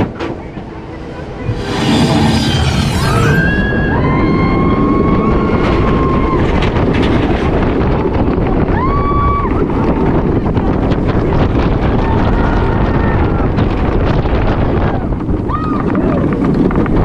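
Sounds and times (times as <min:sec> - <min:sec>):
roller coaster running noise: 0:00.0 - 0:17.0
wind buffeting microphone: 0:00.0 - 0:17.0.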